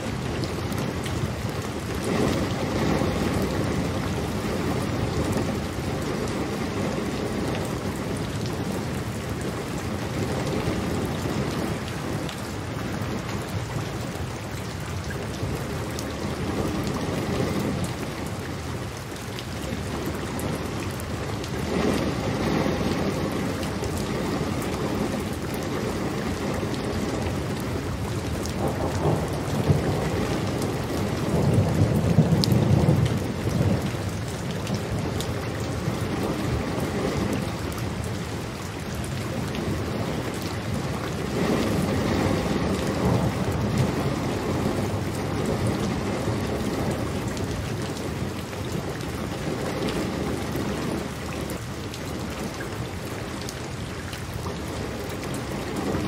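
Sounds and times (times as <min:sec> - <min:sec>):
thunder rumbling: 0:00.0 - 0:14.3, 0:19.6 - 0:53.7
steady rain: 0:00.0 - 0:56.0.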